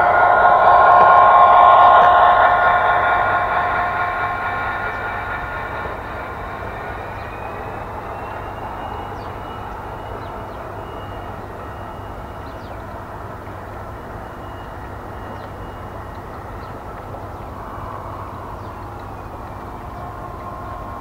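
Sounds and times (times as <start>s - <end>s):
model diesel engine drone: 0.0s - 21.0s.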